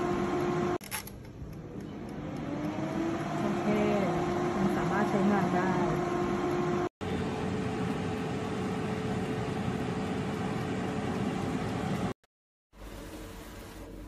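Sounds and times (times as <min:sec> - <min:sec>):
air fryer fan whirring: 0:00.0 - 0:00.8, 0:01.8 - 0:14.0.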